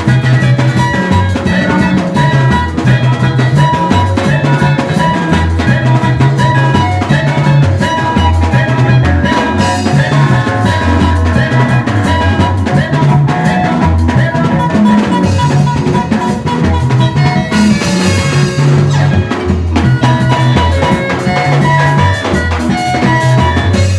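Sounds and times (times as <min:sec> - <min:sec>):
upbeat band music: 0:00.0 - 0:23.9.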